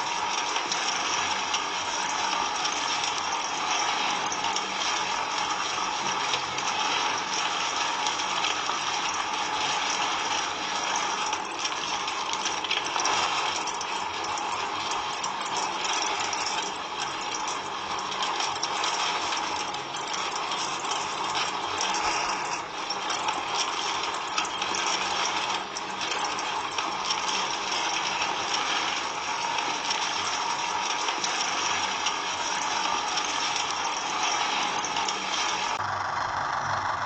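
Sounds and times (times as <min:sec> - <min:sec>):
fine rapid ticks: 0:00.0 - 0:35.8
mechanical rattling and clatter: 0:00.0 - 0:37.0.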